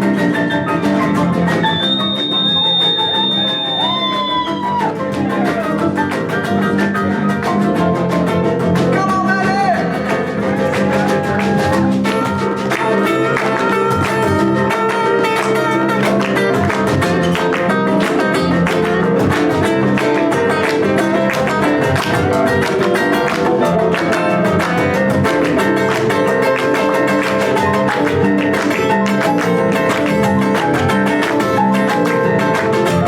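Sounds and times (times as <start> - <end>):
guitar: 0.0 - 33.0
live band playing: 0.0 - 33.0.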